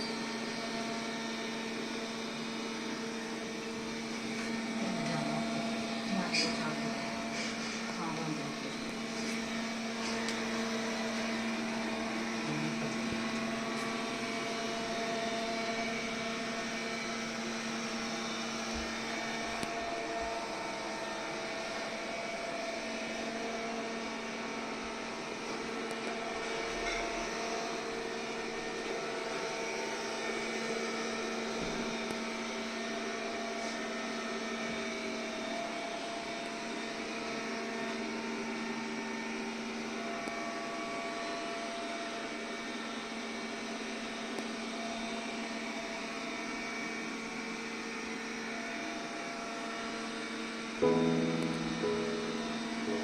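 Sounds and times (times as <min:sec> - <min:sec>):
robot vacuum cleaner whirring: 0:00.0 - 0:53.0.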